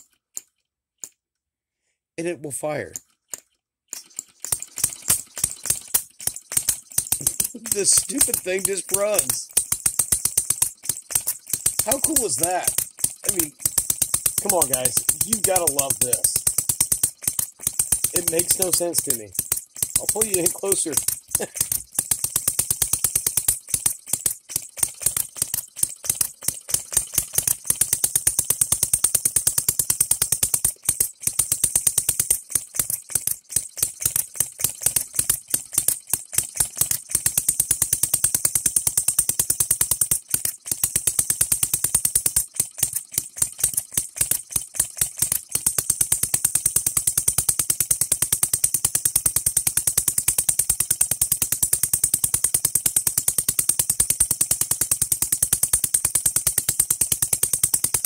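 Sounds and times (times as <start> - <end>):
small gasoline engine popping: 2.9 - 58.0.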